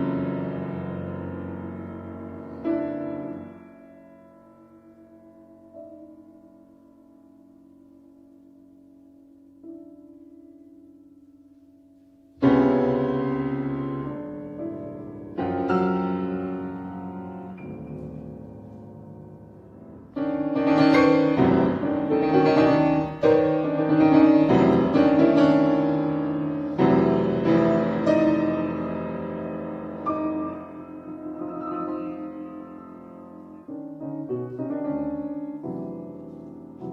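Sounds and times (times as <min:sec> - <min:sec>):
piano chords: 0:00.0 - 0:36.9.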